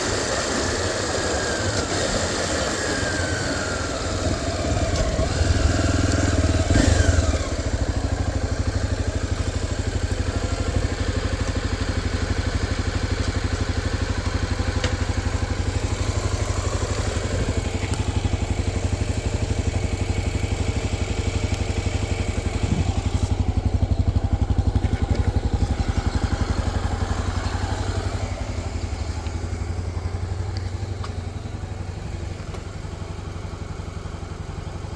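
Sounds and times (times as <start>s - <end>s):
motorcycle engine idling: 0.0s - 34.9s
motorcycle engine revving: 0.0s - 34.9s.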